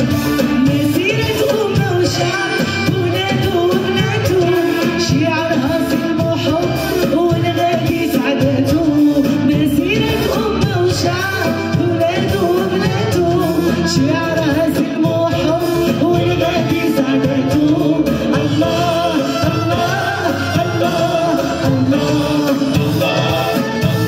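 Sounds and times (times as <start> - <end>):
drum kit: 0.0 - 24.0
woman singing through pa: 0.0 - 24.0.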